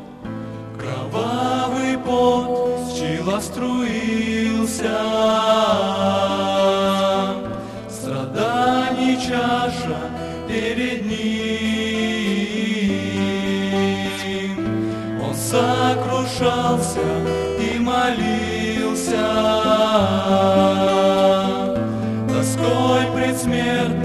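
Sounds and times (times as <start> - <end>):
acoustic guitar: 0.0 - 24.0
male vocal quartet singing a hymn: 0.0 - 24.0.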